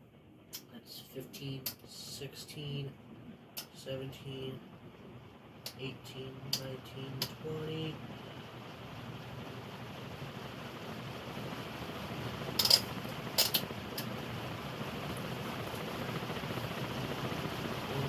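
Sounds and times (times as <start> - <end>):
ceiling fan air rush: 0.0 - 18.0
noisy fan bearings: 0.0 - 18.0.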